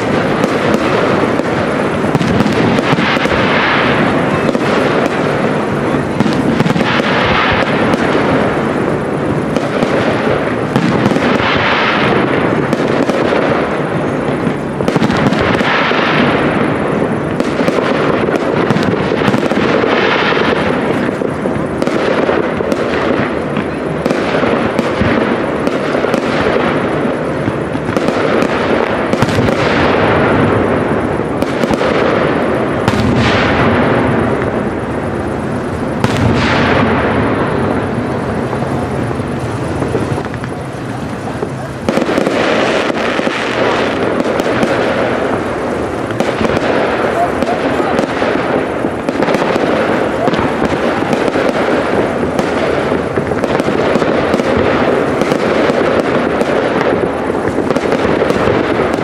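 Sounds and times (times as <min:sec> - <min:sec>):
fireworks bangs and crackle: 0:00.0 - 0:59.0.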